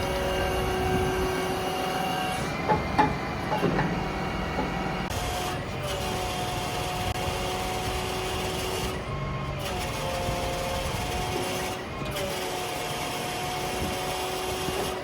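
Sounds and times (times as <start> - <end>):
truck diesel engine and hydraulics whine: 0.0 - 15.0.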